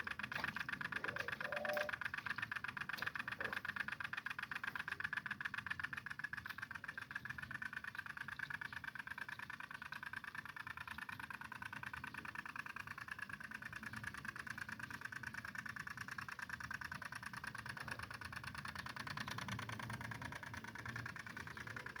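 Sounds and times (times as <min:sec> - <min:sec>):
two-stroke engine buzzing: 0:00.0 - 0:22.0.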